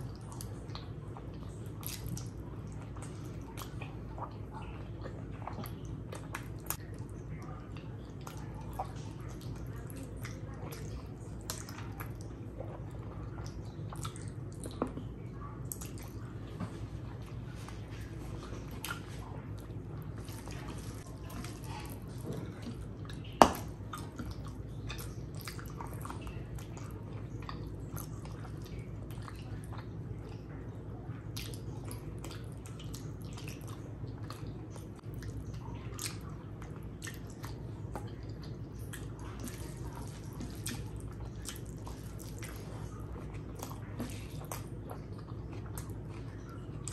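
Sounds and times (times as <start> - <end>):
steady low hum: 0.0 - 46.9
wet chewing and mouth smacking: 0.0 - 46.9.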